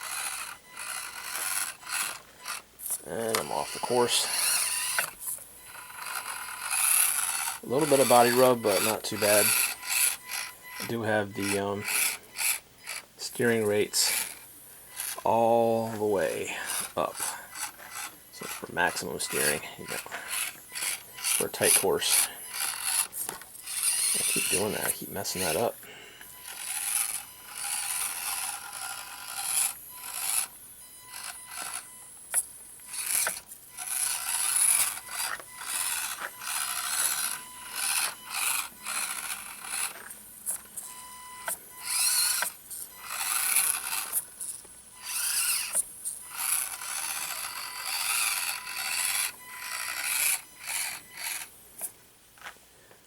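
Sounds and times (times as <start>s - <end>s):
small electric motor whining: 0.0s - 52.6s.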